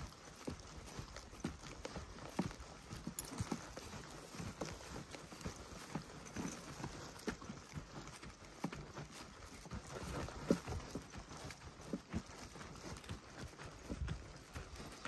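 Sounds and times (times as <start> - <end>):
footsteps on dirt track: 0.0 - 15.0.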